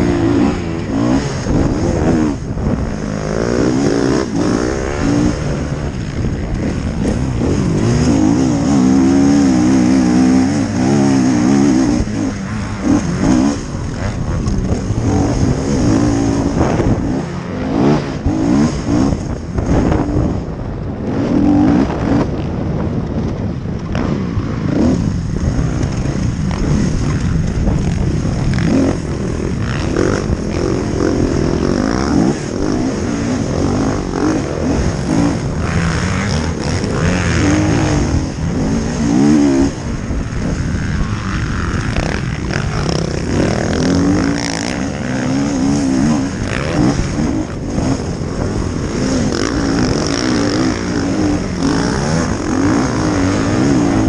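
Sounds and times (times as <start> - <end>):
dirt bike engine revving: 0.0 - 22.9, 23.8 - 54.0
wind on microphone: 0.0 - 54.0.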